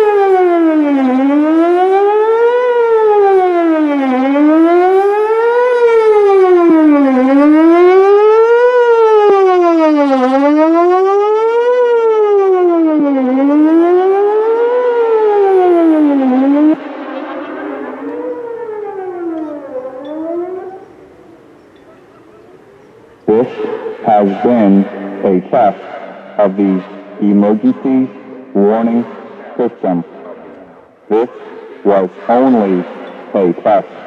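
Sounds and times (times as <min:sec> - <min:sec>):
warning siren fast wail: 0:00.0 - 0:27.5.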